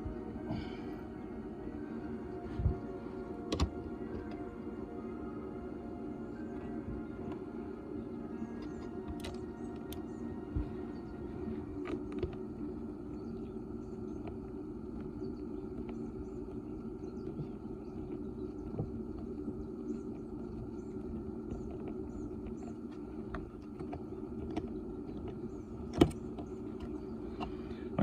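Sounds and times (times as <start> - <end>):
small birds chirping: 0.0 - 28.0
steady low rumble: 0.0 - 28.0.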